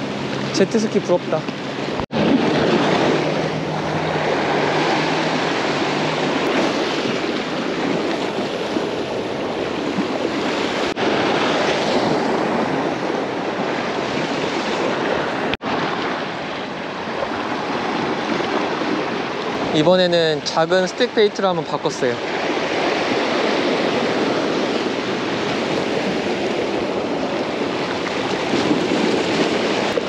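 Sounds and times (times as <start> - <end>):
surf washing against rocks: 0.0 - 30.0.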